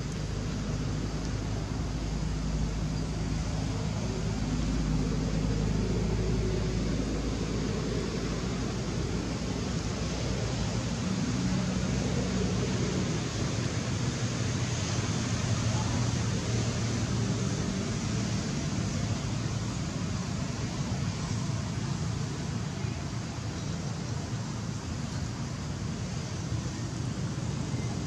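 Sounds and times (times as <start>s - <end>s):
even hiss: 0.0s - 28.0s.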